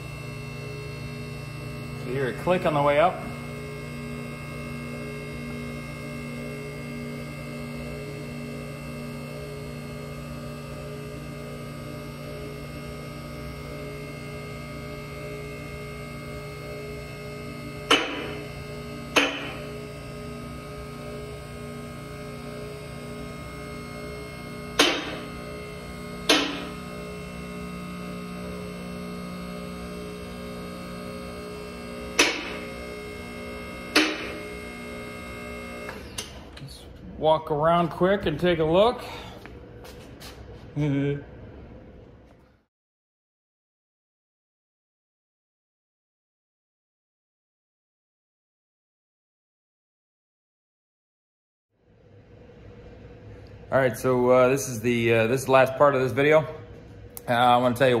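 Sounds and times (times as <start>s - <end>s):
hydraulic pump humming: 0.0s - 42.6s, 52.0s - 58.0s.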